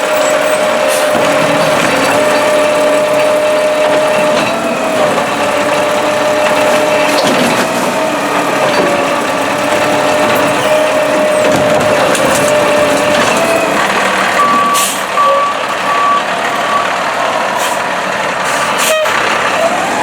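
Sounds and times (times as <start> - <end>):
garbage truck running: 0.0 - 20.0.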